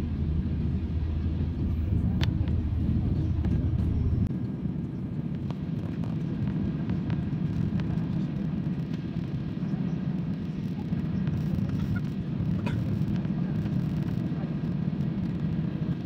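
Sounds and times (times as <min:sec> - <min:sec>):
jet engine rumble in cabin: 0:00.0 - 0:16.0.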